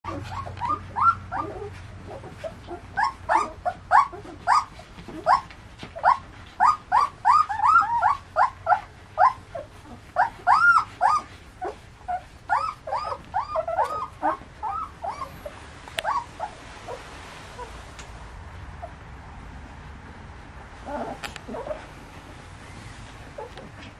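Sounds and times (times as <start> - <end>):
puppies whining and squealing: 0.1 - 17.8, 20.8 - 23.9.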